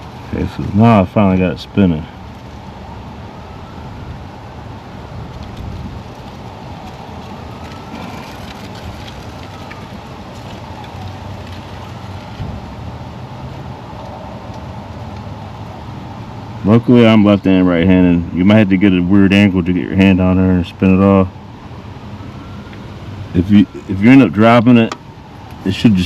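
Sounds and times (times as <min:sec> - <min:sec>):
background rumble and hiss: 0:00.0 - 0:26.0.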